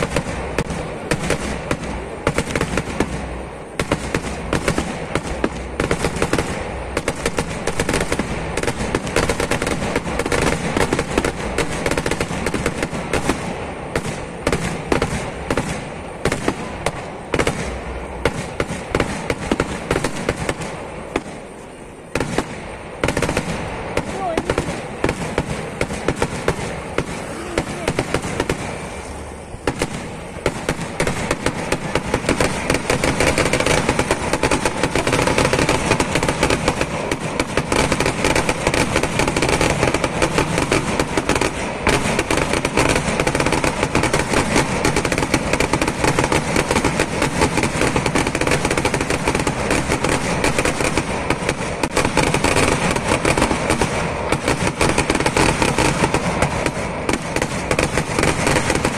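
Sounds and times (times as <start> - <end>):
firecracker bangs: 0.0 - 58.9.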